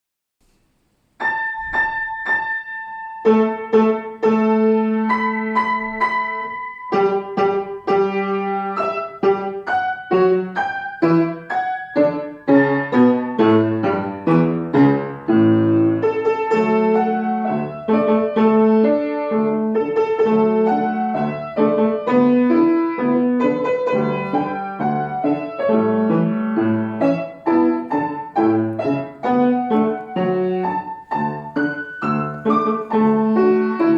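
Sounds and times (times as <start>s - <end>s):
solo piano: 0.4s - 33.9s.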